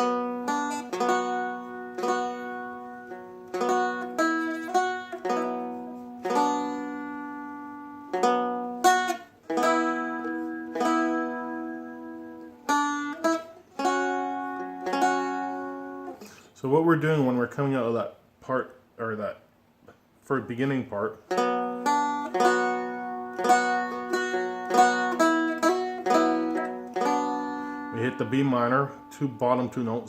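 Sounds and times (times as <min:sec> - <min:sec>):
strumstick picked and strummed: 0:00.0 - 0:16.5, 0:20.6 - 0:30.0.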